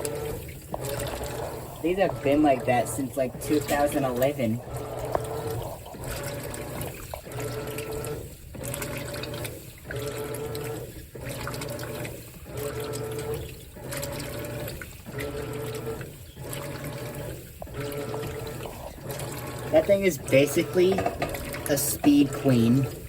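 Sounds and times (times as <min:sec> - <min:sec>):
washing machine motor hum: 0:00.0 - 0:23.0
water swishing: 0:00.0 - 0:23.0.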